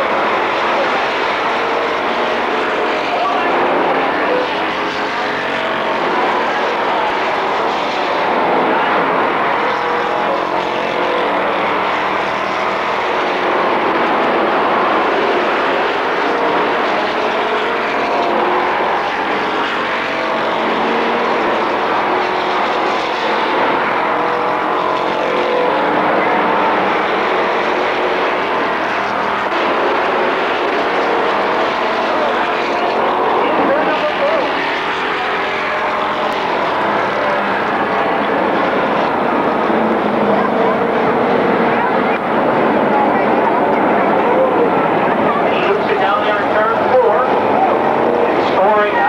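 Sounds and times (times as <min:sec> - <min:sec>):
racing car engines at full throttle: 0:00.0 - 0:49.0.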